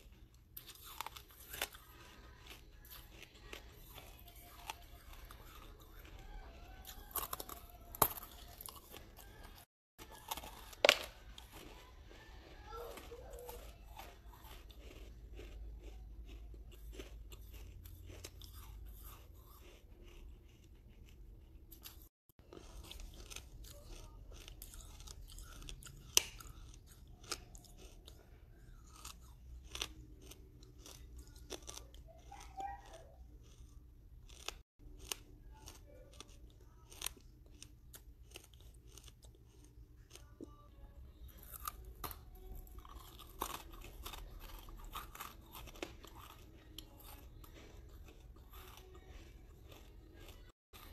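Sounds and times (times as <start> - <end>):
brick being chewed crunching: 0.0 - 50.9.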